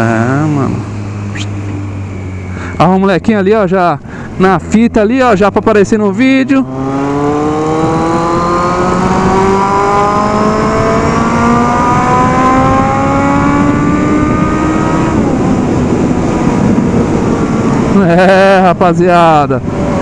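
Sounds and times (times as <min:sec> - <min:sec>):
motorcycle engine accelerating: 0:00.0 - 0:03.4, 0:05.3 - 0:18.6, 0:19.3 - 0:20.0
wind rush on microphone: 0:00.0 - 0:20.0.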